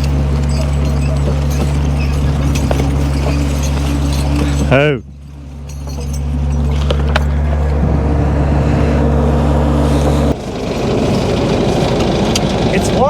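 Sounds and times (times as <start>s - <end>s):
rough low engine rumble: 0.0s - 13.0s
skid steer engine running: 0.0s - 13.0s.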